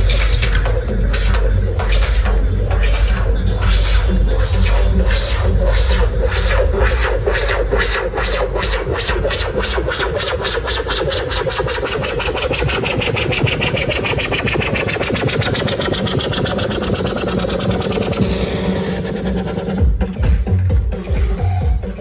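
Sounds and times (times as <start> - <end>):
electronic dance music build-up: 0.0 - 22.0
heavy bass: 0.0 - 22.0.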